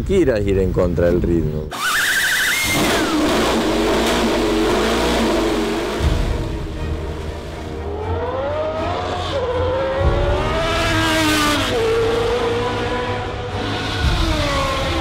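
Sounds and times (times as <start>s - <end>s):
race car engine accelerating: 2.6s - 15.0s.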